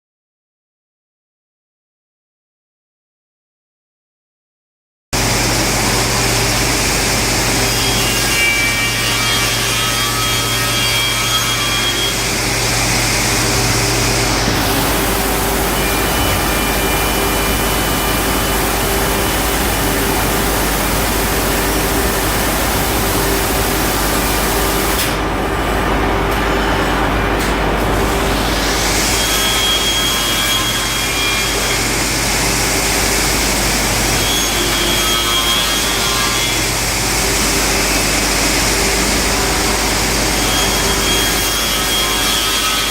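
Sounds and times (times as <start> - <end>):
router cutting wood: 5.2 - 25.3, 28.0 - 42.9
machine hum: 5.2 - 42.9.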